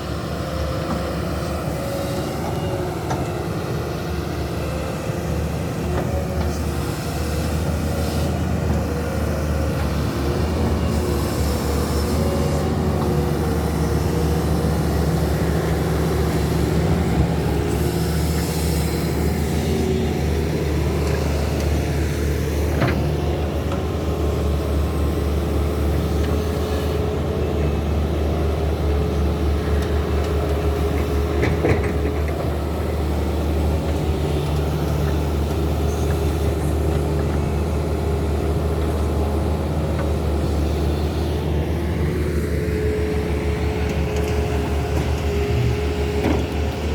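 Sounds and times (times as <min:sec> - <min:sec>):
excavator diesel engines running: 0:00.0 - 0:46.9.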